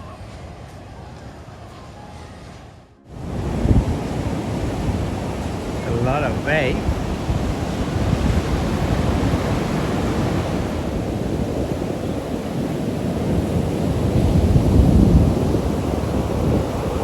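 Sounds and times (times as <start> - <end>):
ocean surf breaking: 3.1 - 17.0
wind buffeting microphone: 3.1 - 17.0.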